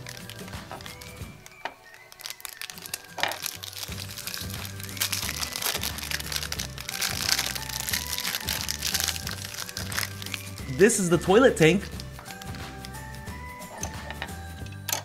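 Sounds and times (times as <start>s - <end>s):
background music with bass: 0.0s - 1.4s, 3.7s - 15.0s
plastic wrapper crinkling: 0.0s - 13.1s.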